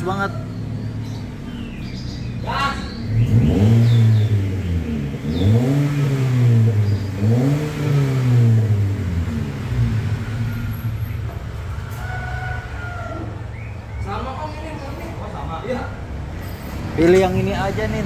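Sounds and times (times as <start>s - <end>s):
car engine revving and idling: 0.0s - 14.9s, 15.8s - 18.0s.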